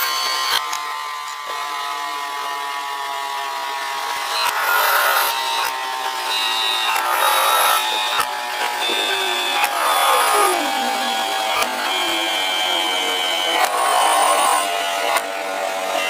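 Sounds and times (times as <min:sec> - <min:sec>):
metal lathe whining: 0:00.0 - 0:16.0.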